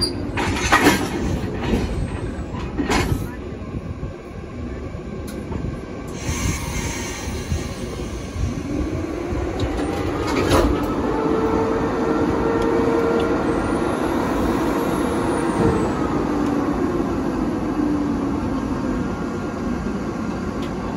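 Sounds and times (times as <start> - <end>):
locomotive machinery hum: 0.0 - 20.9.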